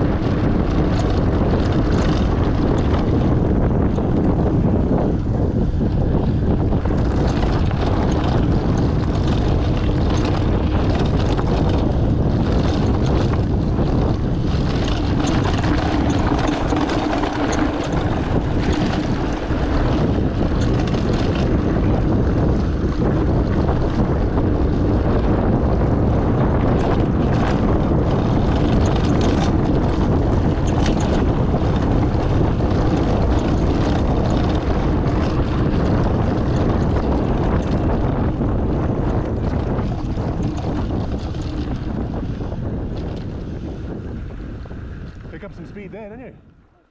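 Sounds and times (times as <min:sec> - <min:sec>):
tyres rolling over dirt and stone: 0:00.0 - 0:04.6, 0:06.0 - 0:43.6
bike knocks and rattles: 0:00.0 - 0:44.4
wind buffeting microphone: 0:00.0 - 0:46.9.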